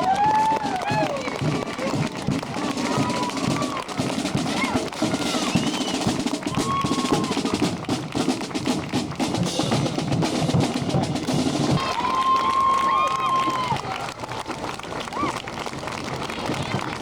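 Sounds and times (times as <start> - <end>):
snare drum rolls: 0.0 - 13.9
crowd voices: 0.0 - 17.0.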